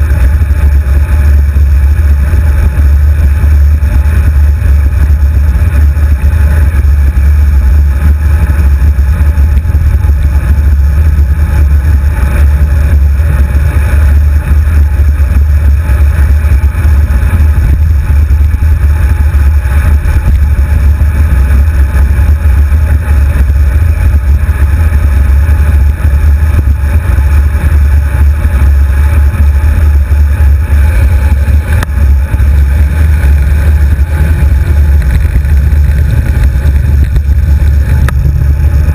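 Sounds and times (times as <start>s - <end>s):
wind and road rumble: 0.0s - 38.9s.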